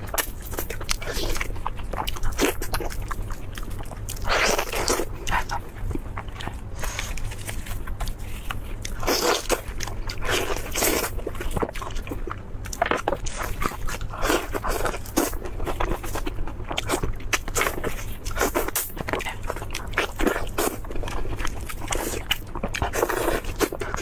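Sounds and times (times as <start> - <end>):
chewing crispy fried food: 0.0 - 24.0.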